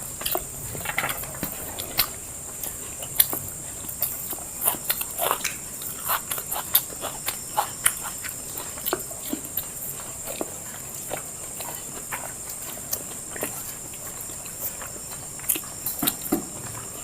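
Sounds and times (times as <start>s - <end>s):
chewing and lip-smacking: 0.0s - 17.0s.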